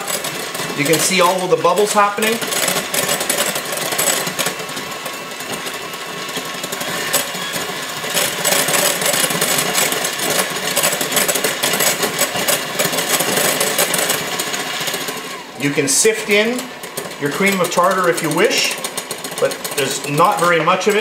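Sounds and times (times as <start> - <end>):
electric hand mixer running: 0.0 - 21.0.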